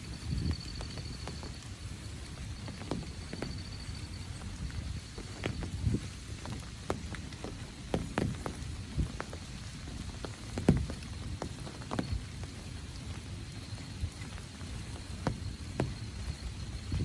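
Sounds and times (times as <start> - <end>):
faint insect drone: 0.0 - 17.0
large raindrops tapping: 0.0 - 17.0
low steady rain patter: 0.0 - 17.0.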